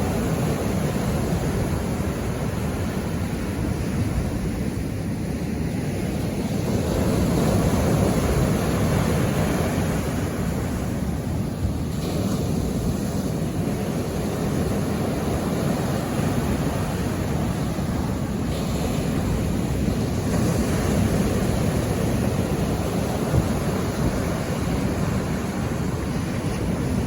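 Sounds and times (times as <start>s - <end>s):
ocean surf washing onto shore: 0.0s - 27.0s
wind rumbling on microphone: 0.0s - 27.0s.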